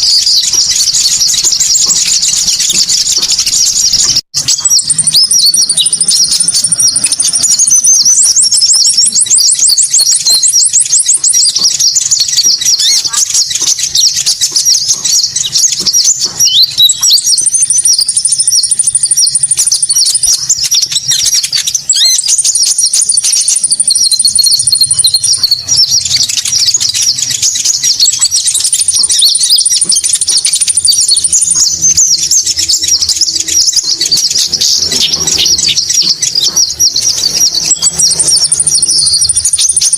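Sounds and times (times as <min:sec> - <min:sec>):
high bird chirping and twittering: 0:00.0 - 0:39.9
thin high bird trill: 0:00.0 - 0:39.9.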